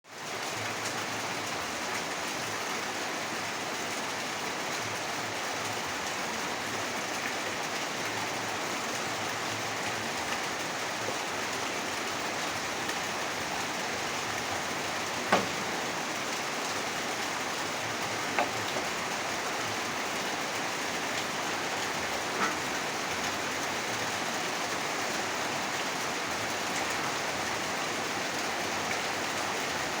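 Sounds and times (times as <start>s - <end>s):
rain hissing: 0.3s - 30.0s.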